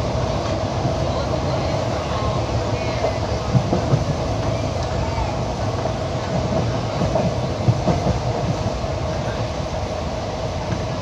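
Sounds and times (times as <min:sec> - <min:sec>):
train coach rumbling: 0:00.0 - 0:11.0.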